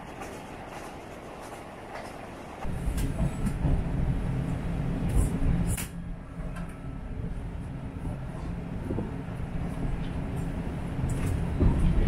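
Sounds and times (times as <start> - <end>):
railcar engine drone: 0.0 - 12.0.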